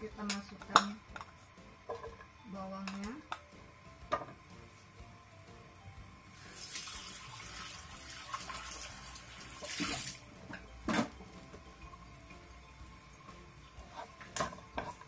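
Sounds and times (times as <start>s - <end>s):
shallots sizzling in oil: 0.0s - 15.0s.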